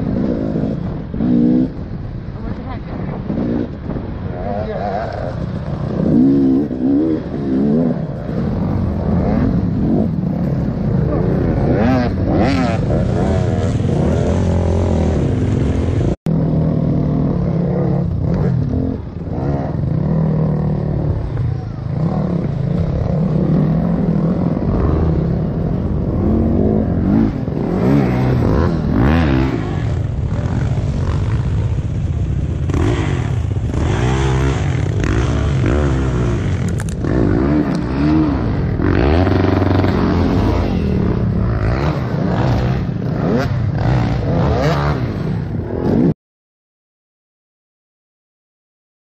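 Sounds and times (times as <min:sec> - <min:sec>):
other dirt bikes revving: 0:00.0 - 0:02.2, 0:03.1 - 0:46.1
dirt bike engine revving close: 0:03.3 - 0:46.1.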